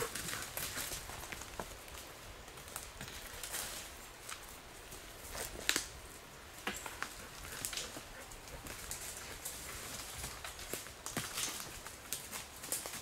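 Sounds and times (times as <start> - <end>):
dog paws on twigs: 0.0 - 13.0.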